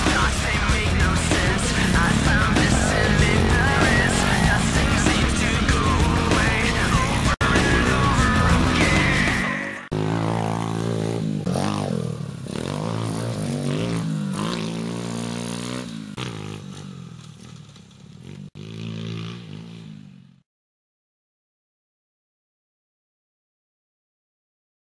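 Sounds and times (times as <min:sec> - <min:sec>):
pit bike engine revving: 0:00.0 - 0:20.4.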